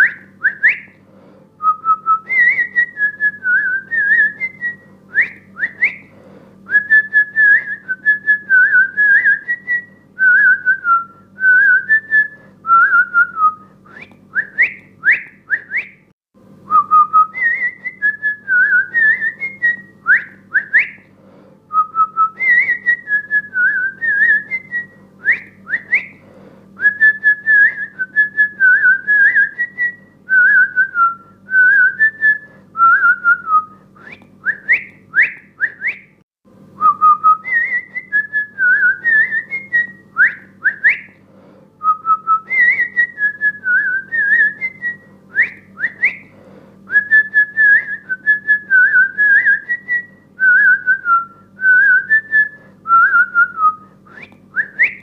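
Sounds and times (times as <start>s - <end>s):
person whistling a tune: 0.0s - 0.9s, 1.6s - 6.1s, 6.7s - 16.0s, 16.7s - 21.0s, 21.7s - 26.2s, 26.8s - 36.1s, 36.8s - 41.2s, 41.8s - 46.3s, 46.9s - 55.0s
faint steady hum: 0.0s - 55.0s.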